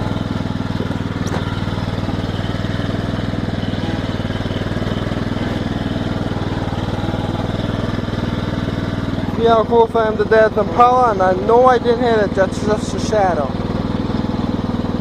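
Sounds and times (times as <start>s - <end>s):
garden tractor engine running: 0.0s - 15.0s.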